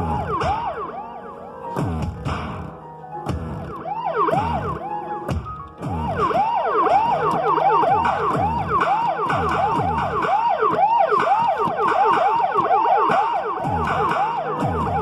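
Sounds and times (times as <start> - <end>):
synthesizer siren wails: 0.0 - 15.0.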